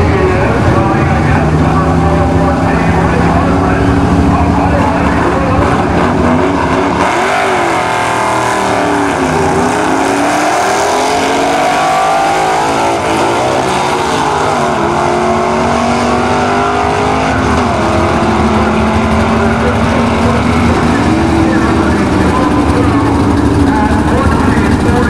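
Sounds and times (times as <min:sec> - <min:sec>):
drag car engines revving: 0:00.0 - 0:25.0.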